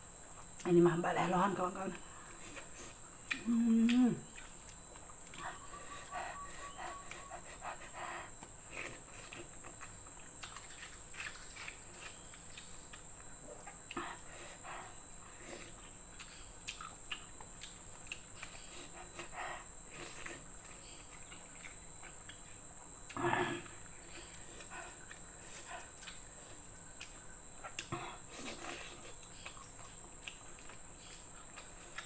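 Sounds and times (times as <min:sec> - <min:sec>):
person chewing and mouth-smacking: 0:02.2 - 0:32.0.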